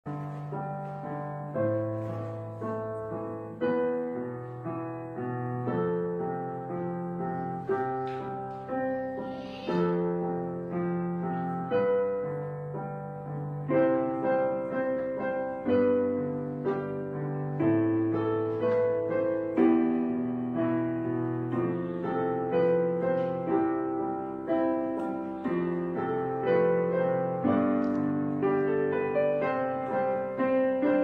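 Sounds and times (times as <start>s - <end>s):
slow piano piece: 0.0s - 31.0s.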